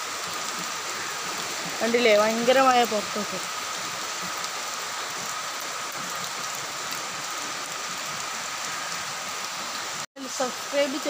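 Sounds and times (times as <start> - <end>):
rain on a tiled roof: 0.0 - 11.0.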